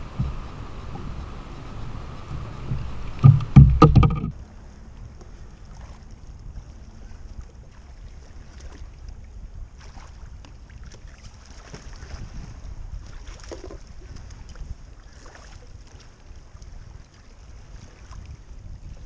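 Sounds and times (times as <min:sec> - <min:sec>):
low wind rumble on microphone: 0:00.0 - 0:19.0
water lapping around kayak: 0:00.0 - 0:19.0.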